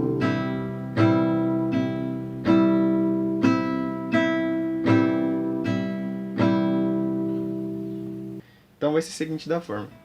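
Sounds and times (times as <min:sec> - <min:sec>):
acoustic guitar strummed slowly: 0:00.0 - 0:08.4.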